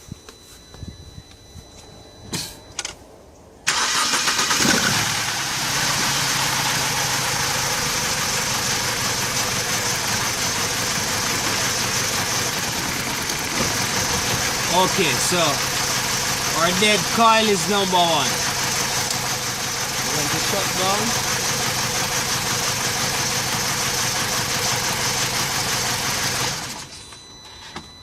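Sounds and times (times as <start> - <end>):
car engine starting and idling: 3.6 - 27.6.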